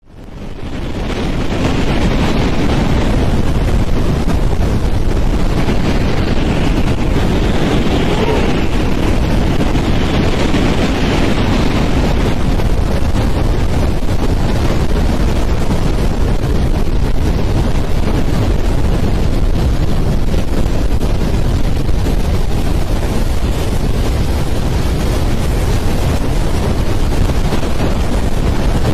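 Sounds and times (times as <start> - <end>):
strong wind blowing: 0.0 - 28.9.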